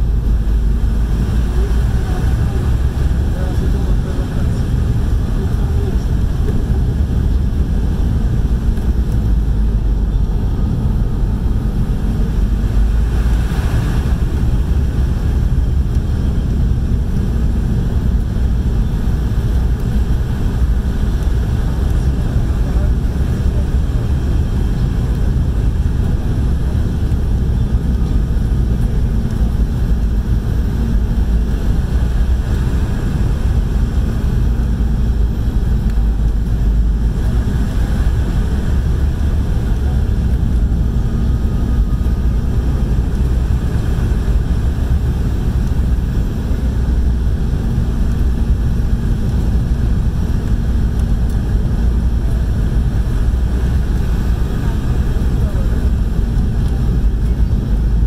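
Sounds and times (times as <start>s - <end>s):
jet engines humming: 0.0s - 58.0s.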